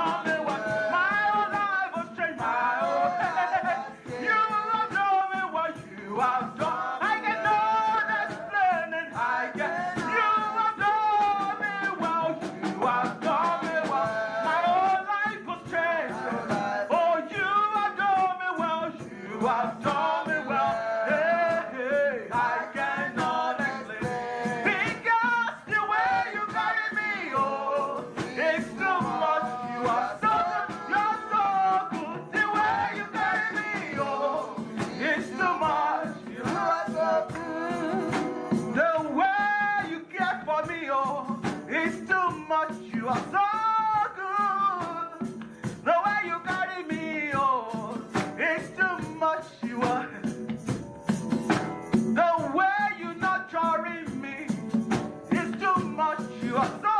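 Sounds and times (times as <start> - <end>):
instrumental accompaniment: 0.0 - 56.9
man singing with vibrato: 0.0 - 56.9.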